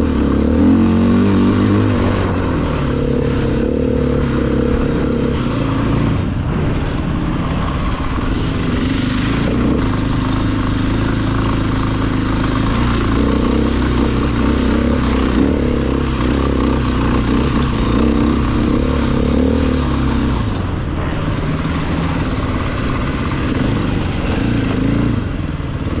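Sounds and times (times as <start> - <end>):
off-road vehicle engine running: 0.0 - 26.0.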